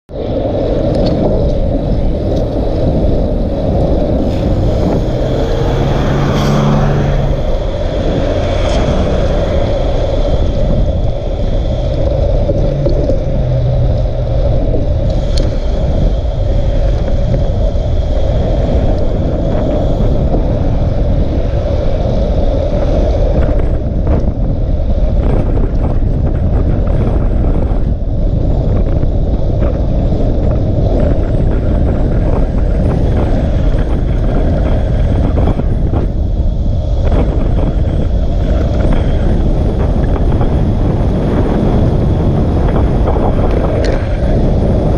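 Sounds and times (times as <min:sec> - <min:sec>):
road and tyre noise: 0:00.1 - 0:44.9
wind buffeting microphone: 0:00.1 - 0:44.9.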